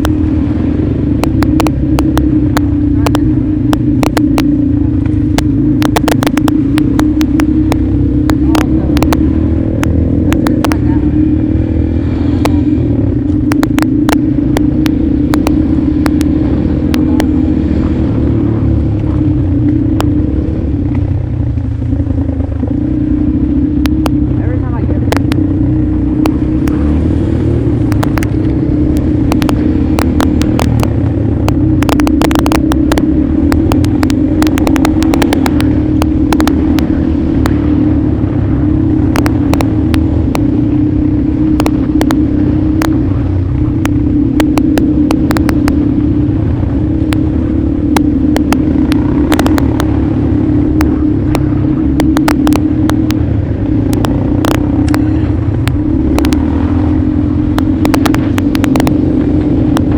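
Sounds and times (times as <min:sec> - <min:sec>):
motorcycle engine running: 0:00.0 - 0:59.9
sharp clicks and ticks: 0:00.0 - 0:59.9.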